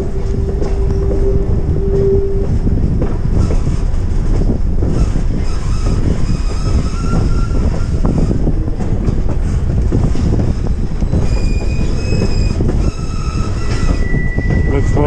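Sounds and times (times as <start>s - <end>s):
steel wheels squealing on rail: 0.0s - 15.0s
train cars rumbling on rails: 0.0s - 15.0s.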